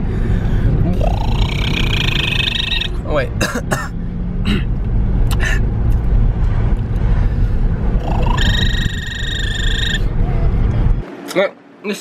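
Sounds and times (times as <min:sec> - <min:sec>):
car road rumble: 0:00.0 - 0:11.1.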